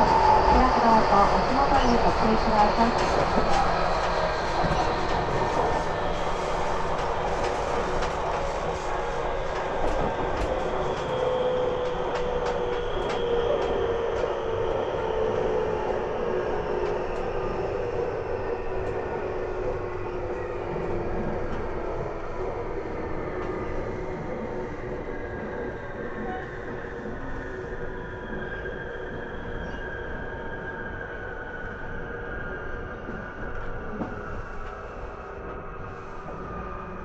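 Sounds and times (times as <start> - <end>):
train motor and fan whine: 0.0 - 37.0.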